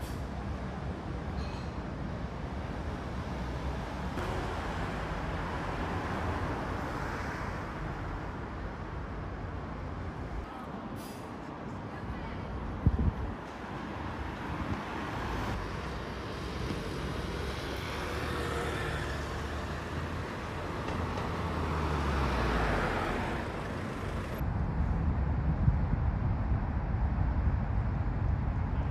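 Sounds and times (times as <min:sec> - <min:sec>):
cars passing: 0:00.0 - 0:24.5.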